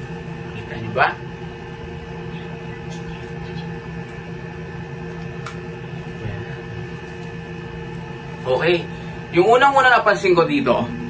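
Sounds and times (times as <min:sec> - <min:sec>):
low room hum with tones: 0:00.0 - 0:11.0.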